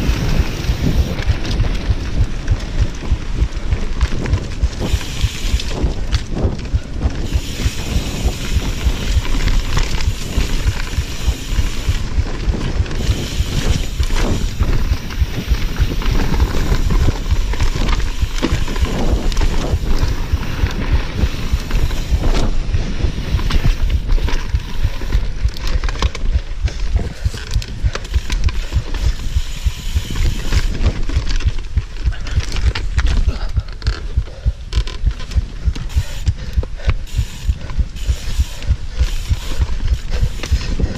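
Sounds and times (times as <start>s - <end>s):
bike clicks and rattles: 0.0s - 40.9s
tyres rolling on dirt: 0.0s - 40.9s
wind buffeting microphone: 0.0s - 40.9s.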